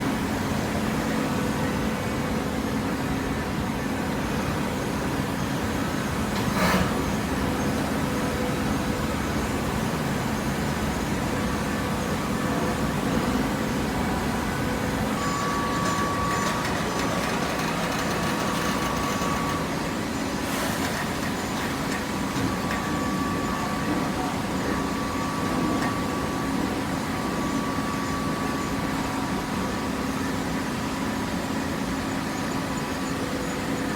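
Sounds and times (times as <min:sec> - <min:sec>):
baler machinery humming: 0:00.0 - 0:33.9.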